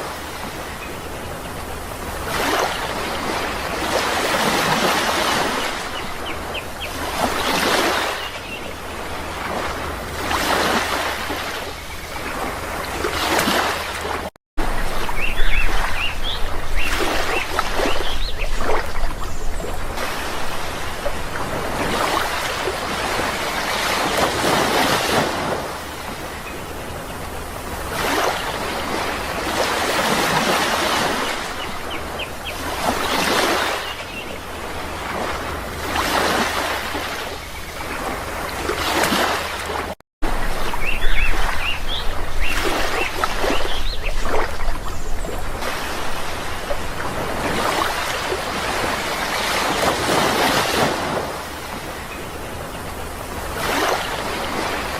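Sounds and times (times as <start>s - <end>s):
sea waves washing onto shore: 0.0s - 54.9s.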